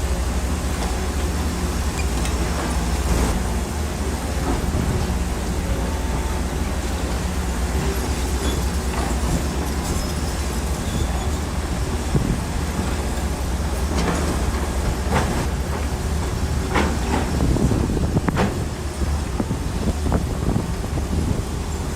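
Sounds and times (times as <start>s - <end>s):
bulldozer diesel engine rumbling: 0.0s - 21.9s.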